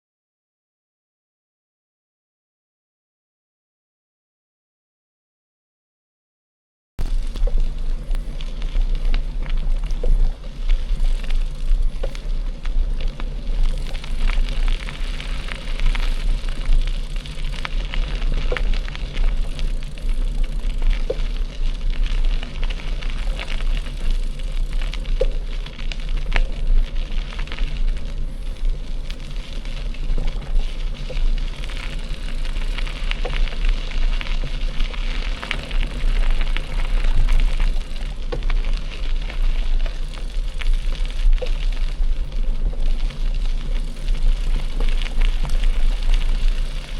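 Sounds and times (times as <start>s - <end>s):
bike tyres crunching on gravel: 7.0s - 46.9s.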